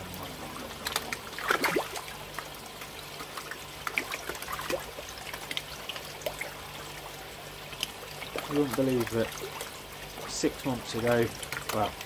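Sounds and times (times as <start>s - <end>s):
fish splashing and slurping: 0.0s - 12.0s.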